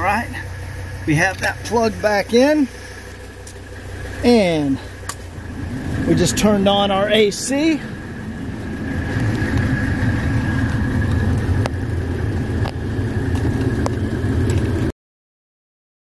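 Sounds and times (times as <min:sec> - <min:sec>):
diesel engine idling: 0:00.0 - 0:14.9
high whine: 0:00.0 - 0:14.9.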